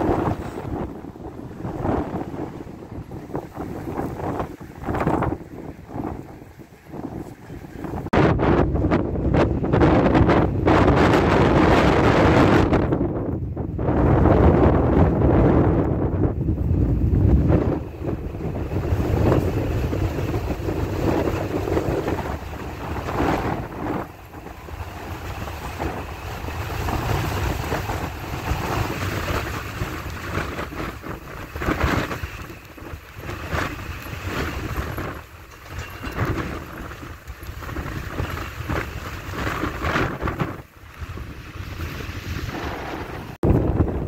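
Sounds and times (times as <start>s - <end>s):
gusting wind buffeting microphone: 0.0s - 44.0s.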